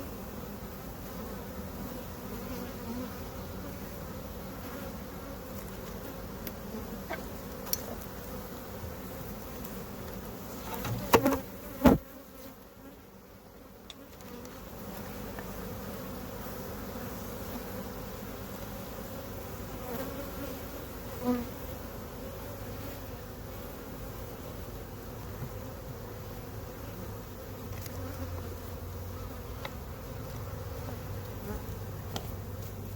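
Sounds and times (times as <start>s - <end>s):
bees buzzing: 0.0s - 32.9s.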